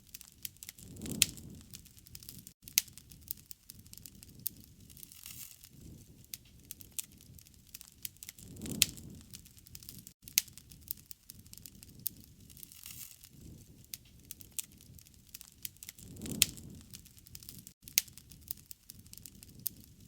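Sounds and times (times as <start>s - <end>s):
campfire pops and crackles: 0.0s - 20.0s
flames rushing: 0.4s - 2.5s, 3.1s - 20.0s.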